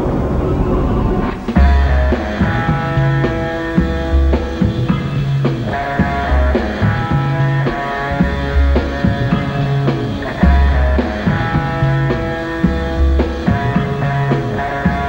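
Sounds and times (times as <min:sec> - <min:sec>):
sustained guitar chords: 0:00.8 - 0:15.0
drum hits: 0:01.2 - 0:15.0
repeating bass line: 0:01.5 - 0:15.0.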